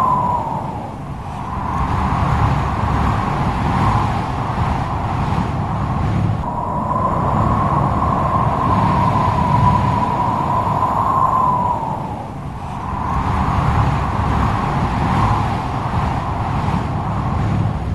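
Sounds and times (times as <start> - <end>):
strong gusty wind: 0.0 - 17.9
wind whistling howl: 0.0 - 17.9.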